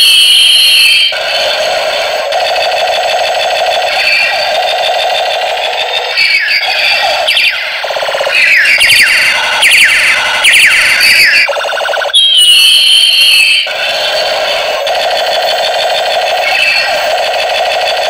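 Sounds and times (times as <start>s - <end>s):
toy gun electronic warbling tones: 0.0s - 18.0s.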